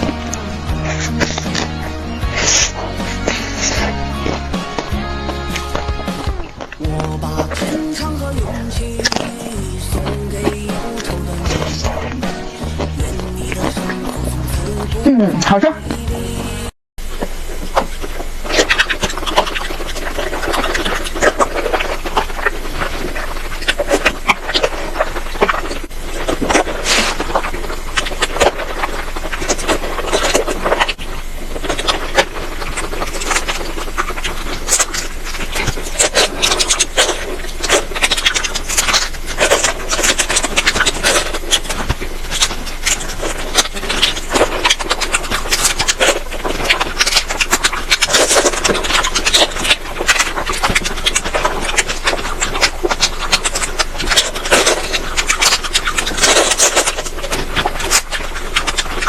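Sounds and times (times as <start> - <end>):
chewing and crunching food: 0.0 - 59.0
mouth clicks: 0.0 - 59.0.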